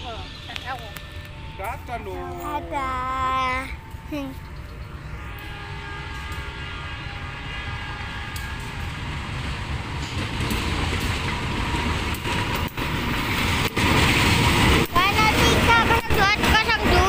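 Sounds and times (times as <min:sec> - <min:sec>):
locomotive engine rumble: 0:00.0 - 0:17.0
train wheel noise: 0:00.0 - 0:17.0.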